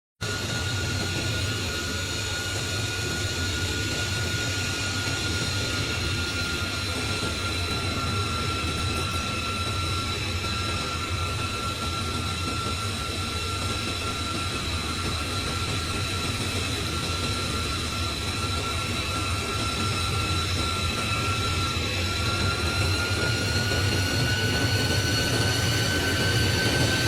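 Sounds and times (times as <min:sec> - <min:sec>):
high turbine whine: 0:00.2 - 0:27.0
jet engines rumbling: 0:00.2 - 0:27.0.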